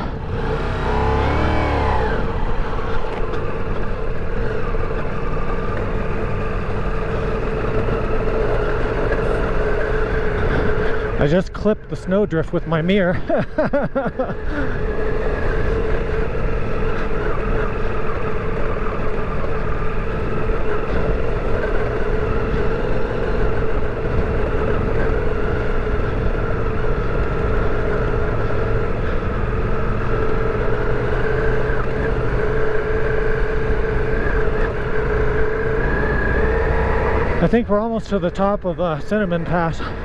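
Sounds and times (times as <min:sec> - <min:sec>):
continuous low rumble: 0:00.0 - 0:35.6, 0:37.0 - 0:40.0
motorcycle engine running: 0:00.0 - 0:40.0.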